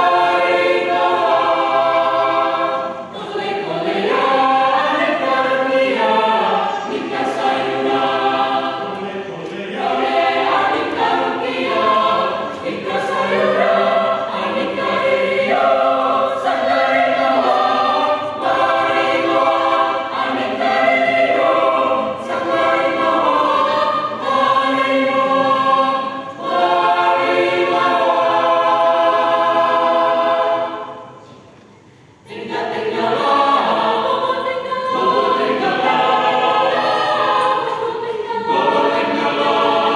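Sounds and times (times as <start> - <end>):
mixed choir singing: 0.0 - 31.5, 32.2 - 39.9.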